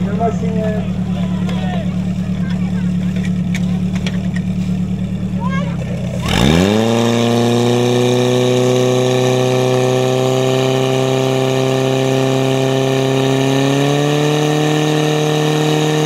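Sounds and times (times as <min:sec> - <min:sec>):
pump engine running at high revs: 0:00.0 - 0:16.0.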